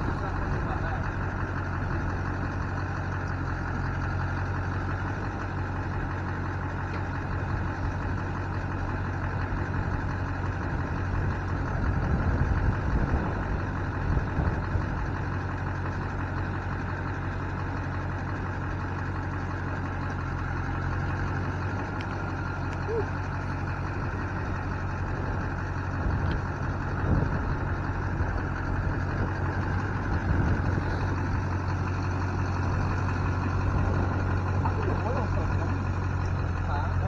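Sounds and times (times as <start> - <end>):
diesel truck idling: 0.0 - 37.0.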